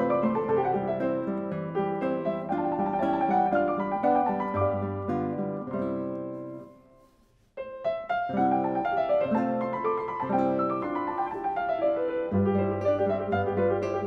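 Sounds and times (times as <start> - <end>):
upright piano playing: 0.0 - 14.0.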